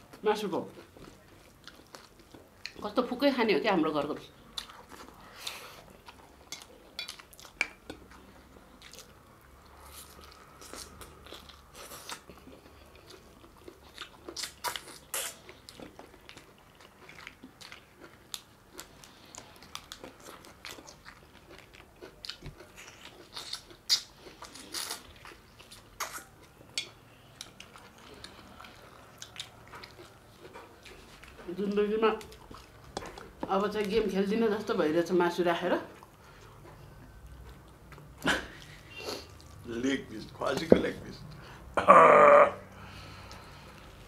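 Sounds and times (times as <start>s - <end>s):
people chewing food: 0.0s - 3.1s, 4.0s - 34.7s, 35.5s - 44.0s.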